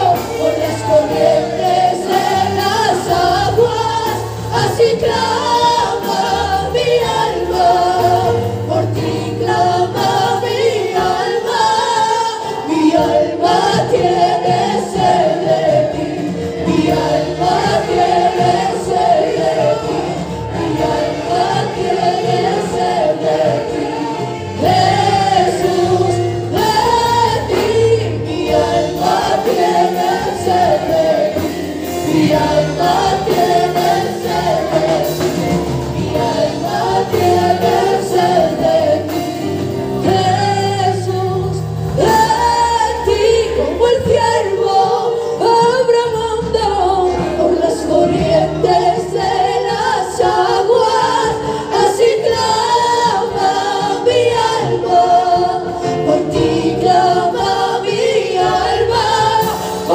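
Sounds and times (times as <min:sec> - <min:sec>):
women's choir singing: 0:00.0 - 0:59.9.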